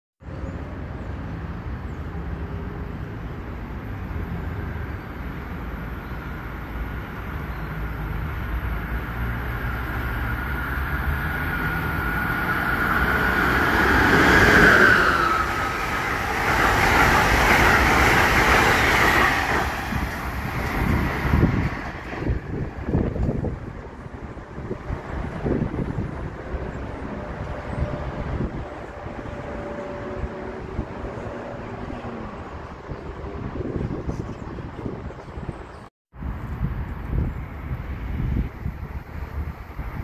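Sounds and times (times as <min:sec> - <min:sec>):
rush of passing cars: 0:00.2 - 0:40.0
passenger train passing: 0:00.3 - 0:40.0.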